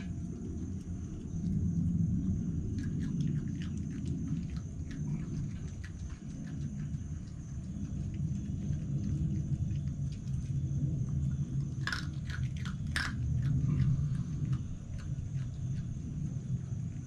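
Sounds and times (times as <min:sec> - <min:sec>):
fox chewing and crunching food: 0:00.0 - 0:17.0
steady low rumble: 0:00.0 - 0:17.0.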